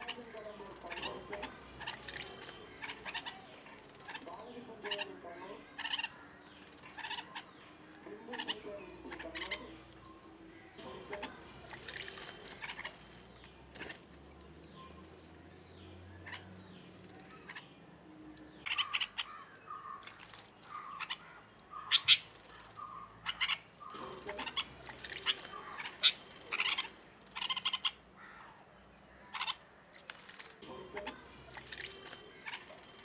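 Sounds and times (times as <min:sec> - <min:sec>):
short chirping bird calls: 0:00.0 - 0:14.0, 0:14.6 - 0:28.4, 0:29.3 - 0:33.0
birds splashing in water: 0:00.0 - 0:17.7, 0:18.6 - 0:28.0, 0:29.3 - 0:33.0.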